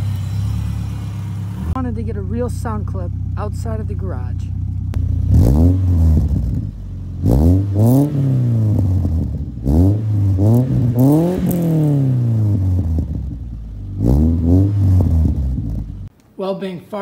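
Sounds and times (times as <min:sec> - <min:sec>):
car engine idling and revving: 0:00.0 - 0:16.1.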